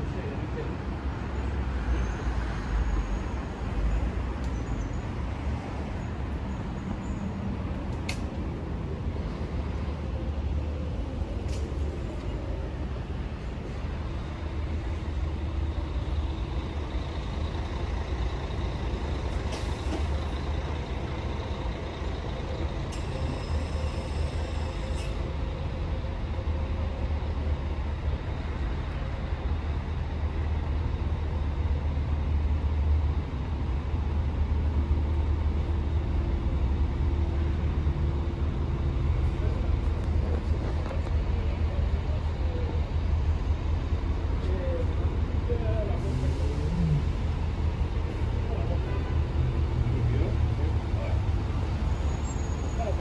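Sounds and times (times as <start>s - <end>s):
traffic rumble: 0.0s - 53.0s.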